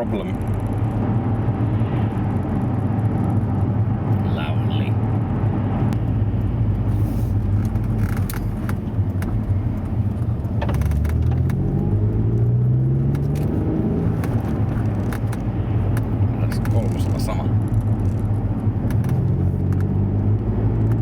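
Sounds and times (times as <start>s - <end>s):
car engine accelerating: 0.0s - 21.0s
road rumble: 0.0s - 21.0s.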